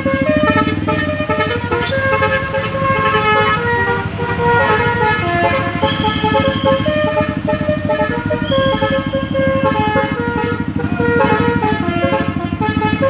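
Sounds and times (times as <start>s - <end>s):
bus horn playing a tune: 0.0s - 13.0s
low rapid throbbing: 0.0s - 13.0s.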